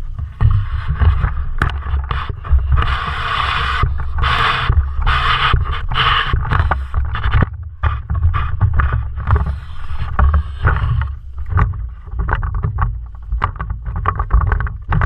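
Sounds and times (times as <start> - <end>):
irregular thumps: 0.0 - 15.0
low rumble: 0.0 - 15.0
rushing scraping noise: 0.0 - 15.0.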